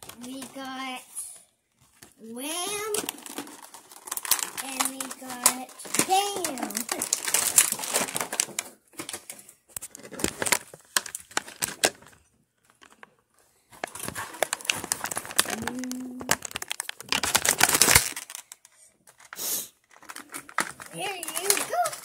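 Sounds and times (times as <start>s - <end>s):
plastic bag crinkling: 0.0s - 13.1s, 13.7s - 22.0s.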